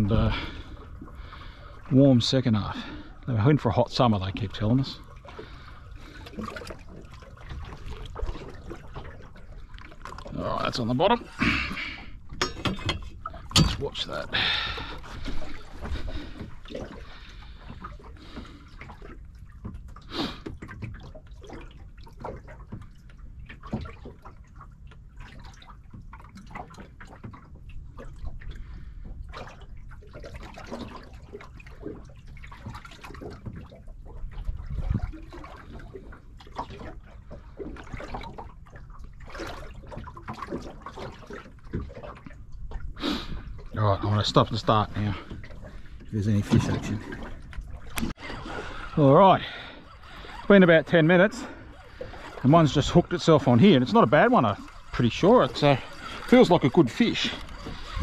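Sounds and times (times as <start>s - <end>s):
waves slapping boat hull: 0.0s - 58.0s.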